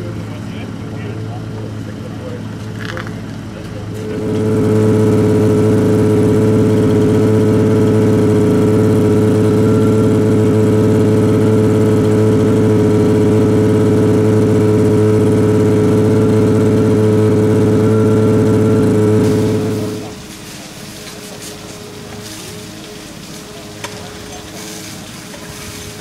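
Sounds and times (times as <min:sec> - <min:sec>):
engine running at high revs: 0:00.0 - 0:26.0.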